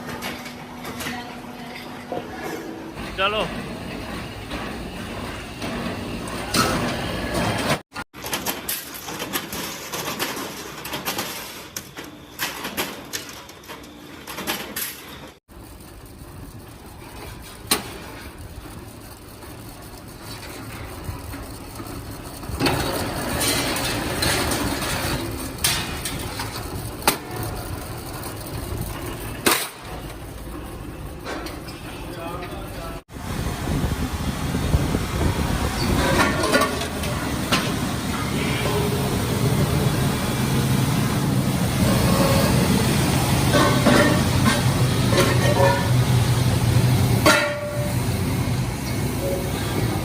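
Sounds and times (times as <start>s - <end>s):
factory machinery running: 0.0s - 50.0s.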